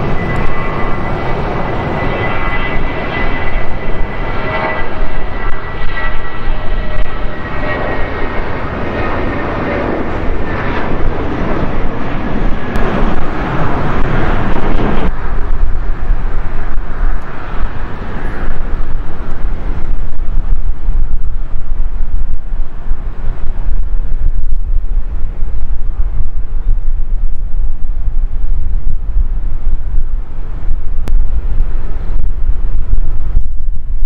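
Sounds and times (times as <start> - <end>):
jet engine rumble with whine: 0.0 - 34.0.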